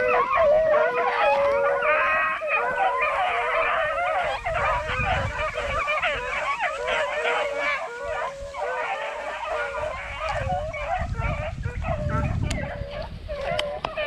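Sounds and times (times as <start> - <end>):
hounds baying in chorus: 0.0 - 14.0.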